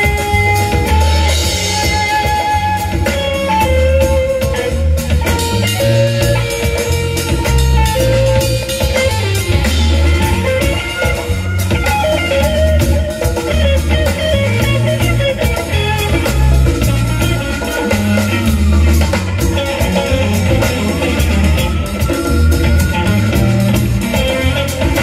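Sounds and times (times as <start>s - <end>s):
bass guitar: 0.0s - 25.0s
congas: 0.0s - 25.0s
drum kit: 0.0s - 25.0s
electric guitar solo: 0.0s - 25.0s.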